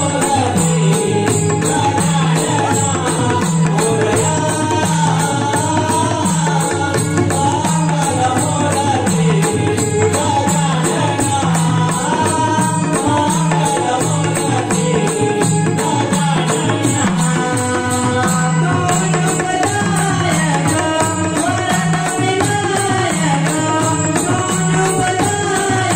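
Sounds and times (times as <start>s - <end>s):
hand drums beating: 0.0s - 25.9s.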